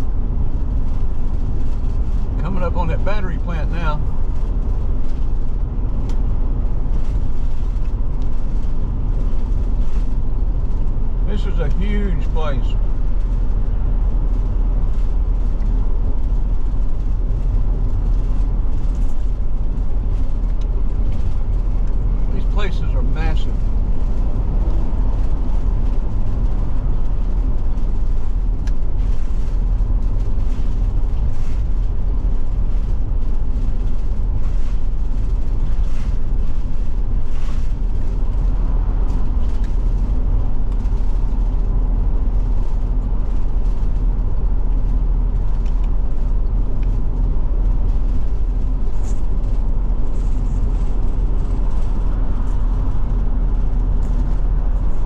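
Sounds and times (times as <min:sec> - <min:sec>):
motorhome engine and road noise: 0:00.0 - 0:55.0.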